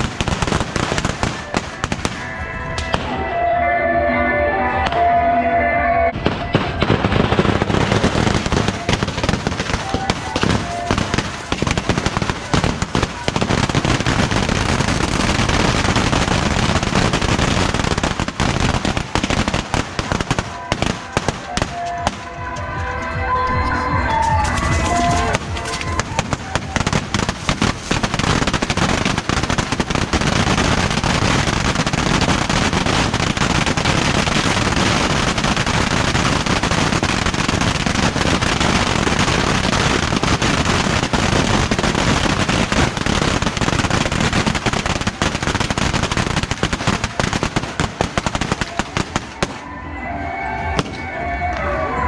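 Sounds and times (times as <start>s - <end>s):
fireworks hissing launches and bangs: 0.0s - 3.1s, 6.2s - 22.2s, 24.5s - 49.6s.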